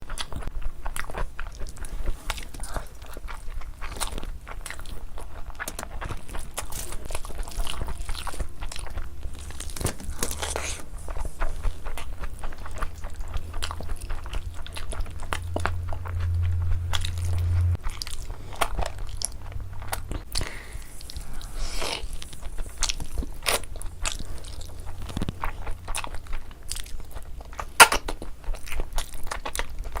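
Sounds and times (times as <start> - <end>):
close-miked chewing: 0.0 - 30.0
small crunches and crackles: 0.1 - 16.4, 17.8 - 30.0.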